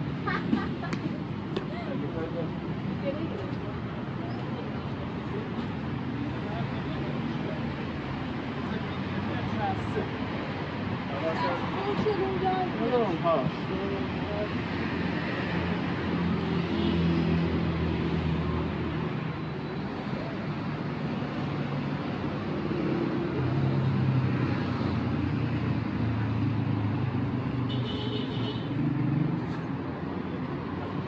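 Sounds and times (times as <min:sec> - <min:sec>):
vehicles passing: 0:00.0 - 0:31.0.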